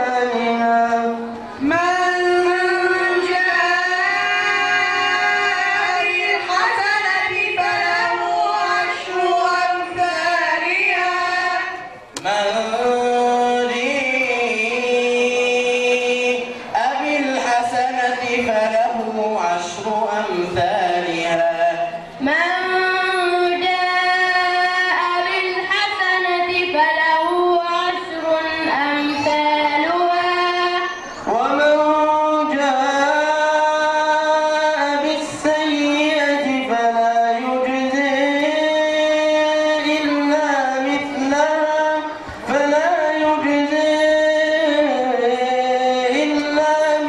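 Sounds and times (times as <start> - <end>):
boy chanting into microphone: 0.0 - 47.0.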